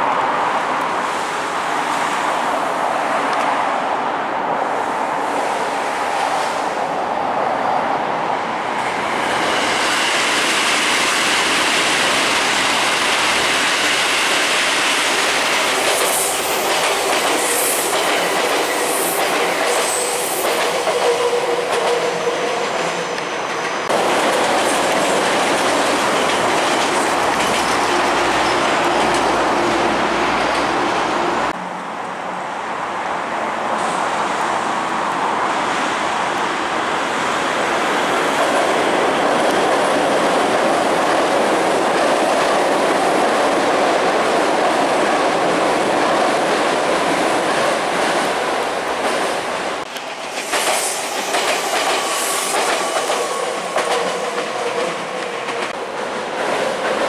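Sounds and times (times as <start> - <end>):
train wheels rumbling on rails: 4.6 - 31.6, 33.7 - 57.0.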